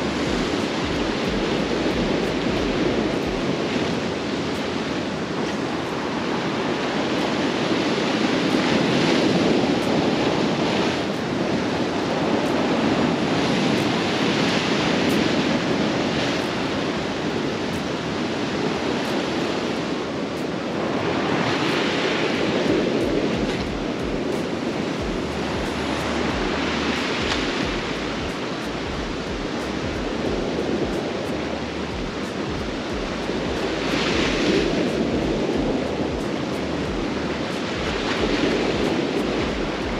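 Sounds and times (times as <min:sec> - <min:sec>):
waves breaking on rocks: 0:00.0 - 0:39.9
wind buffeting microphone: 0:00.0 - 0:39.9.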